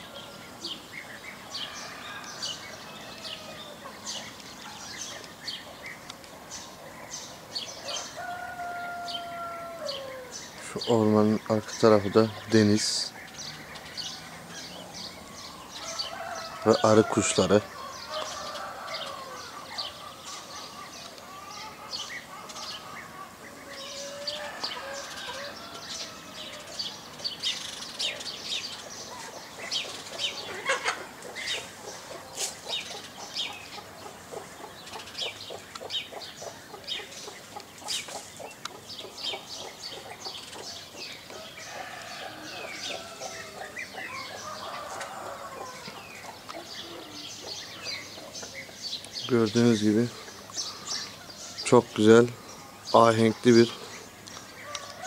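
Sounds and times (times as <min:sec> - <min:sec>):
flock of birds chirping: 0:00.0 - 0:55.0.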